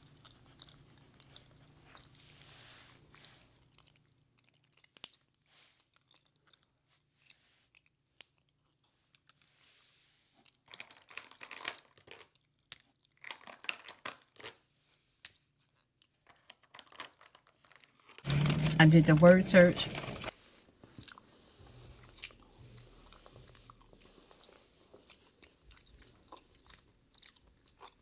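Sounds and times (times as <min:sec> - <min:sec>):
potato chips being chewed: 0:00.0 - 0:19.2, 0:20.8 - 0:28.0.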